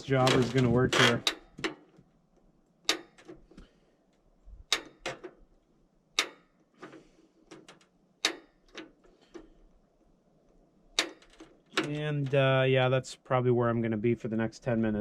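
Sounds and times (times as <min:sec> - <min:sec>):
sharp clicks and light knocks: 0:00.0 - 0:12.4.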